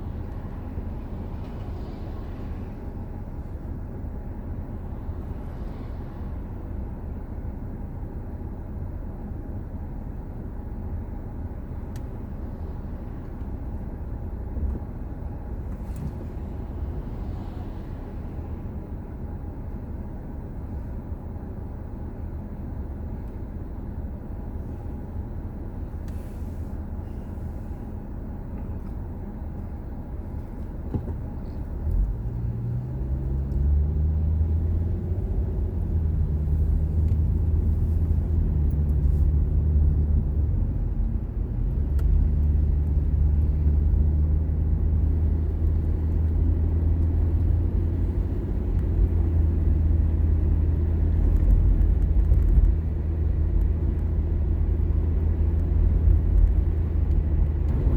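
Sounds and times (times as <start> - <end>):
car engine: 0.0 - 57.9
road rumble: 0.0 - 57.9.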